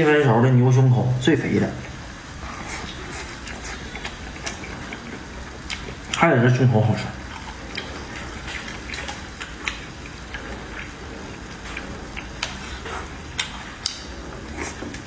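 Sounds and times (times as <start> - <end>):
faint sizzle: 0.0 - 15.0
fat spitting and popping: 1.8 - 6.2, 7.3 - 15.0.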